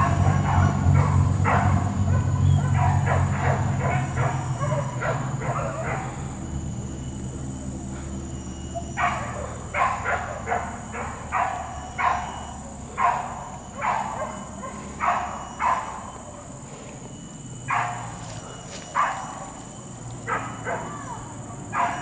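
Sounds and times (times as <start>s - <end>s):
dogs barking: 0.0s - 6.6s, 8.4s - 16.7s, 17.6s - 22.0s.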